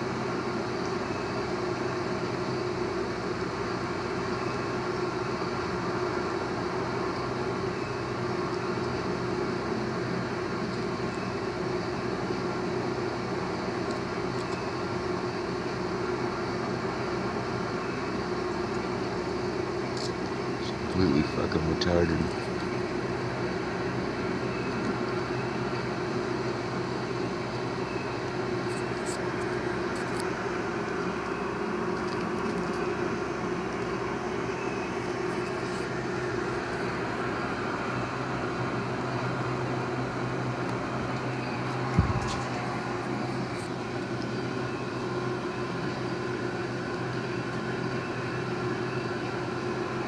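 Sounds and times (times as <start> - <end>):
mechanical hum: 0.0 - 50.0.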